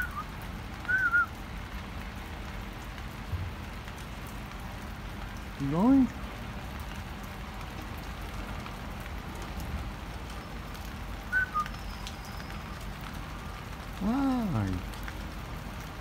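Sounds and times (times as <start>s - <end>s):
rain pattering on rooftops: 0.0s - 16.0s.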